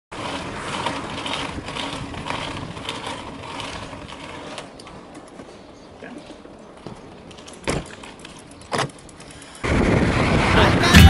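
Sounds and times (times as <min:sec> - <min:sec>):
bike whirring and rattling: 0:00.1 - 0:11.0.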